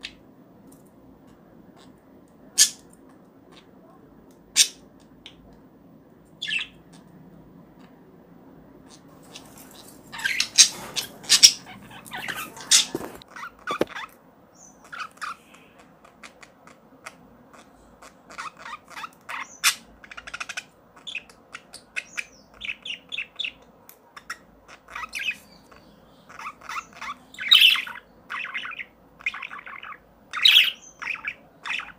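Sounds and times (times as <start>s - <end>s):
birds chirping and squawking: 1.6s - 5.4s, 6.2s - 31.9s.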